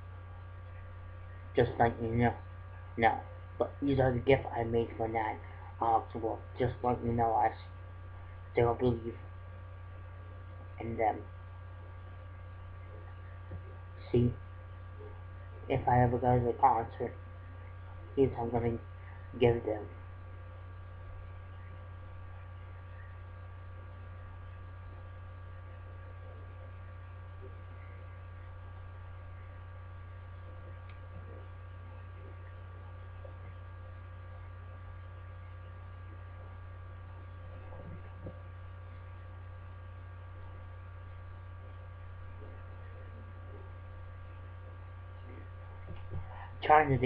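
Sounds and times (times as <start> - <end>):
low electrical mains hum: 0.0 - 47.0.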